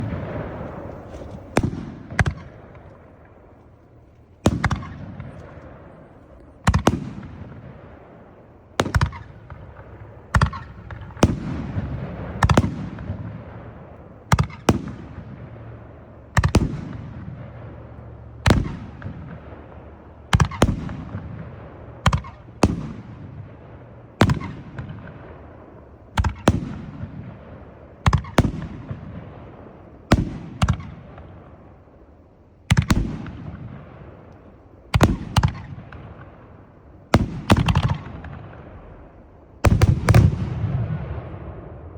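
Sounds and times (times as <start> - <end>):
firework bangs with echoing rumble: 0.0 - 41.9.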